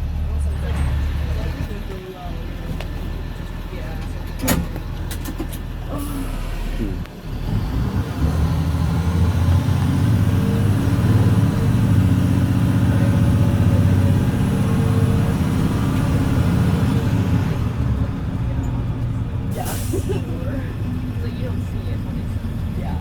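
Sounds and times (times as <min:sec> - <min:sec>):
bus diesel engine under load: 0:00.0 - 0:23.0.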